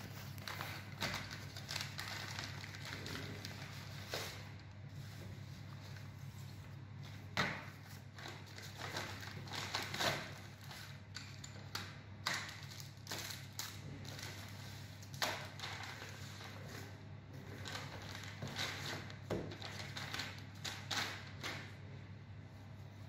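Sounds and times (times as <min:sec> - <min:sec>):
paper and plastic rustling: 0:00.0 - 0:21.8
steady low hum: 0:00.0 - 0:23.0.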